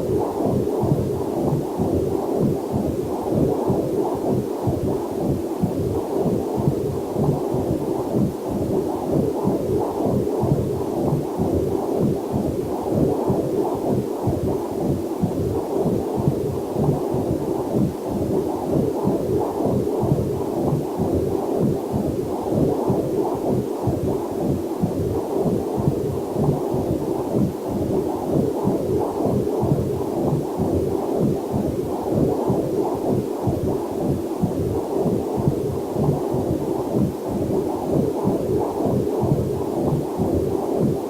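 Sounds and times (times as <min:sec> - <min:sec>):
fetal heartbeat whooshing pulse: 0:00.0 - 0:41.0.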